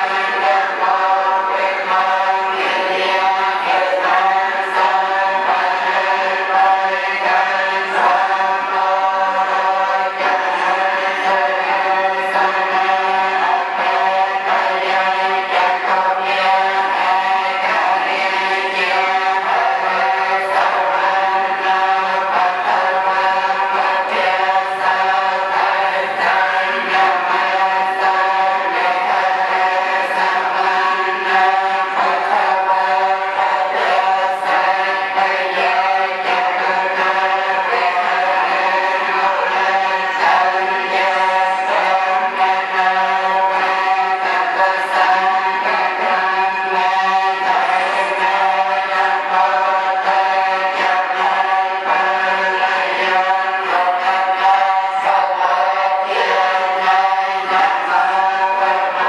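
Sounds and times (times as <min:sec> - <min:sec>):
monks chanting together: 0:00.0 - 0:59.0.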